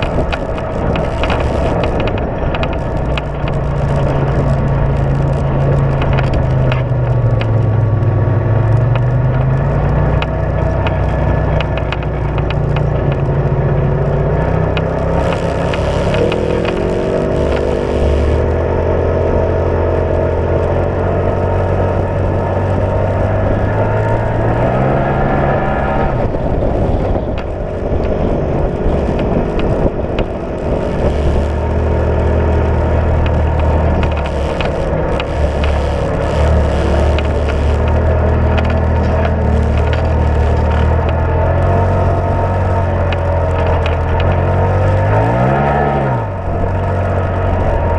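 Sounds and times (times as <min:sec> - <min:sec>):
small stones ticking: 0:00.0 - 0:25.1, 0:26.1 - 0:47.9
utility vehicle engine running: 0:00.0 - 0:47.9.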